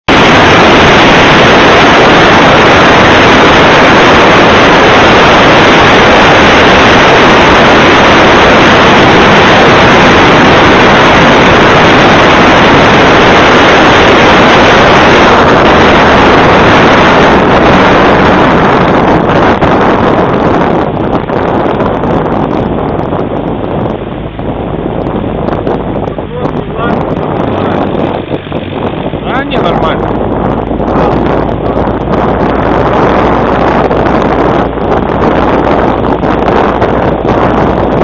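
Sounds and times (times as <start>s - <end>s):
motorboat motor running: 0.0s - 38.0s
water along hull: 0.0s - 38.0s
wind on microphone: 0.0s - 38.0s.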